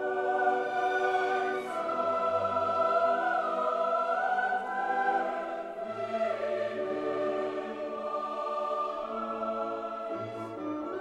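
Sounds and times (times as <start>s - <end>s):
choir singing long notes: 0.0s - 11.0s
sustained musical accompaniment: 0.0s - 11.0s.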